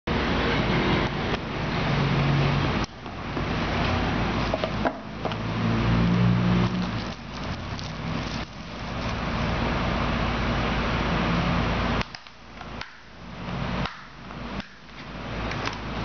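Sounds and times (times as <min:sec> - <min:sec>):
low mechanical hum: 0:00.1 - 0:16.0.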